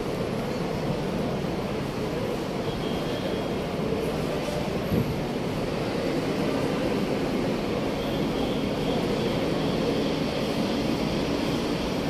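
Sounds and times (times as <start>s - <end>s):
city rumble and hiss: 0.0s - 12.0s.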